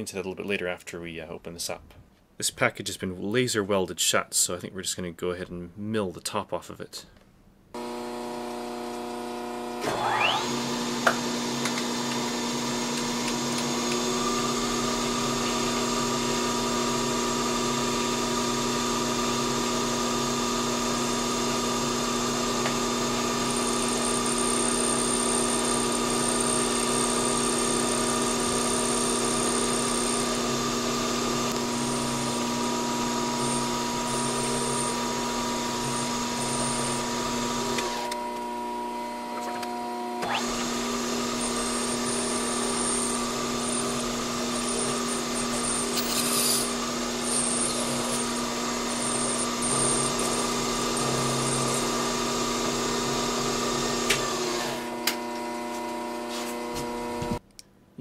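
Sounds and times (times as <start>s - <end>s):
milling machine motor whine: 7.8s - 57.4s.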